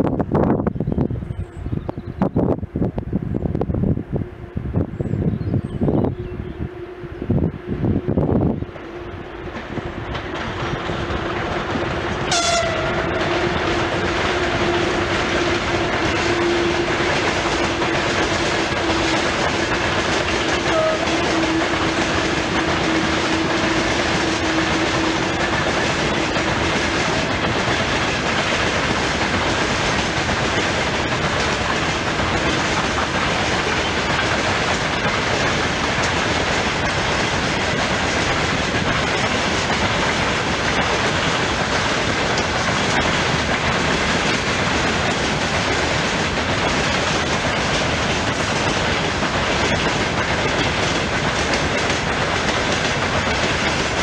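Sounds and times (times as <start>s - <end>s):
train wheels rumbling on rails: 0.0s - 54.0s
clickety-clack over rail joints: 8.6s - 54.0s.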